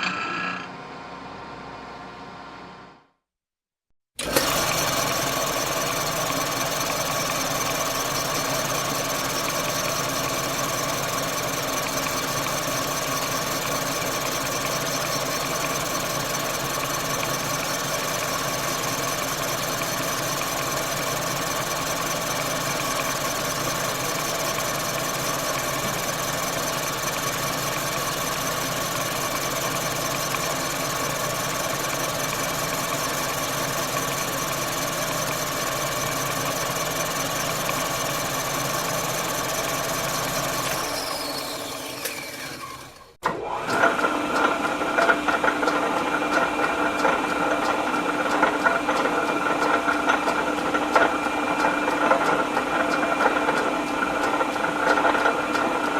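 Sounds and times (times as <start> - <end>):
lathe running: 4.2 - 55.9.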